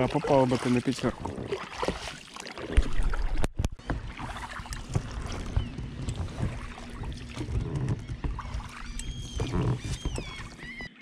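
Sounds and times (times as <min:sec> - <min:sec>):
oars splashing in water: 0:00.0 - 0:11.0.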